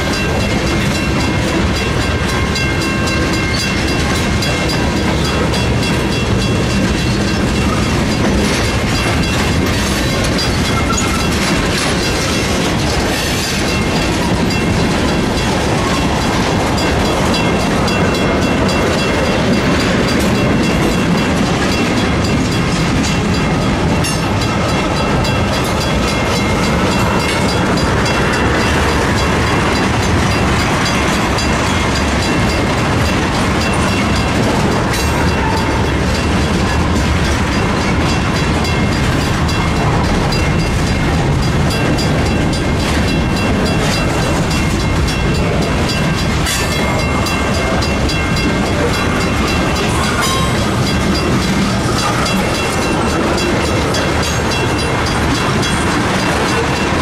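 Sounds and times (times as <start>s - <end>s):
freight train rolling past: 0.0s - 57.0s
wheels clicking over rail joints: 0.0s - 57.0s.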